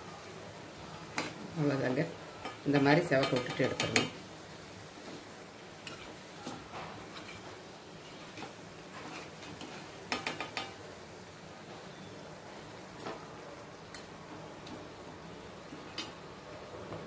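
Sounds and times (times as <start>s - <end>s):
deep-frying sizzle in oil: 0.0s - 17.0s.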